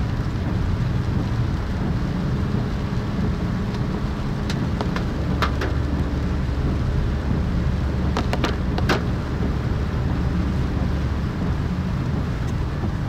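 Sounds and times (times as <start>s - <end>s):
car engine: 0.0s - 13.0s
tyres on wet road: 0.0s - 13.0s
windscreen wiper squeaks: 1.9s - 13.0s.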